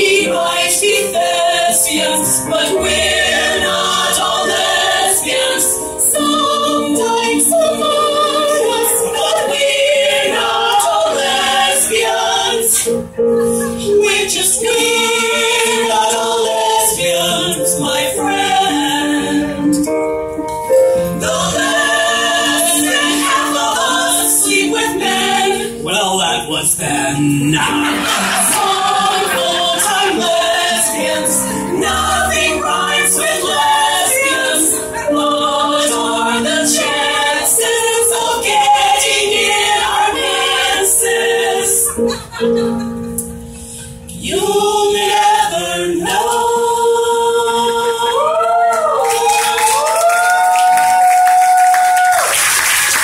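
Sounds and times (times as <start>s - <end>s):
mixed choir singing in harmony: 0.0s - 51.1s.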